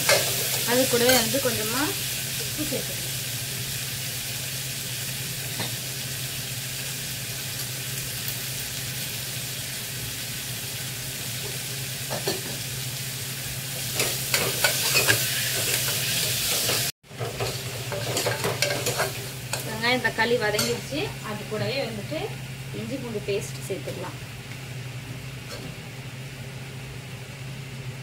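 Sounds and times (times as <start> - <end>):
onions and tomatoes sizzling in oil: 0.0 - 28.0.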